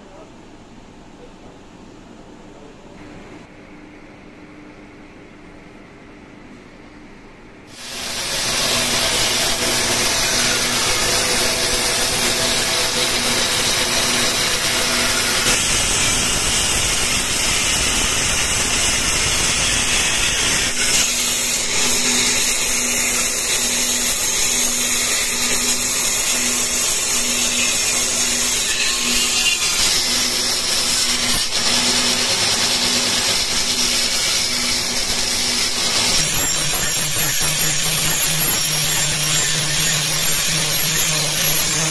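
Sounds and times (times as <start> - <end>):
bandsaw blade cutting wood: 7.7 - 41.9
bandsaw motor humming: 7.7 - 41.9.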